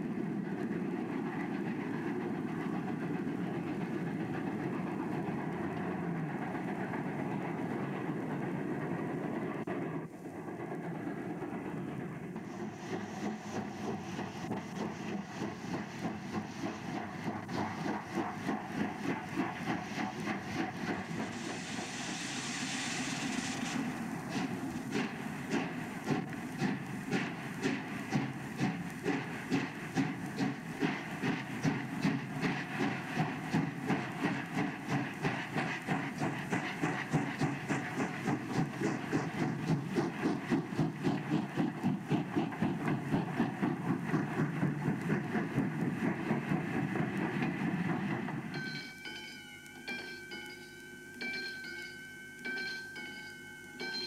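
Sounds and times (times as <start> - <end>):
steam hissing: 0.0 - 50.5
steam train chugging: 0.0 - 54.0.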